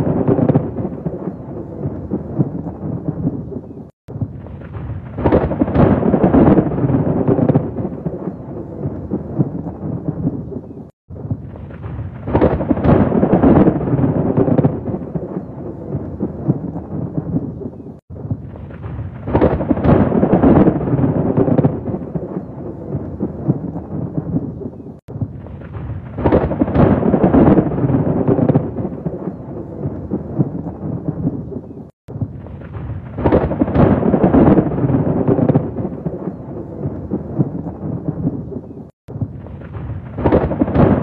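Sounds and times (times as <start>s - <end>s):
heavy rain: 0.0s - 41.0s
rolling thunder: 0.0s - 41.0s.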